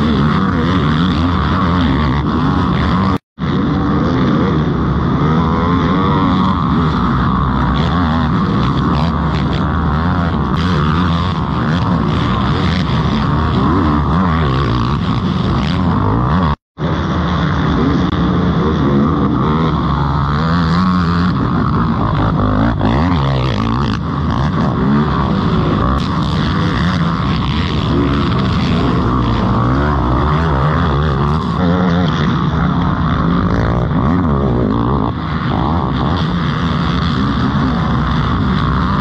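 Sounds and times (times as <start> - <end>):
quad engines revving: 0.0 - 39.0.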